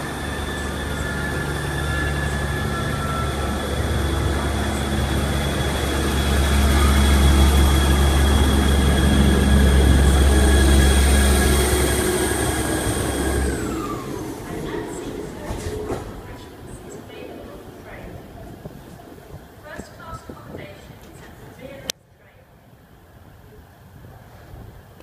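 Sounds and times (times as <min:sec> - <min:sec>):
high whine: 0:00.0 - 0:21.0
diesel train engine hum: 0:00.0 - 0:25.0.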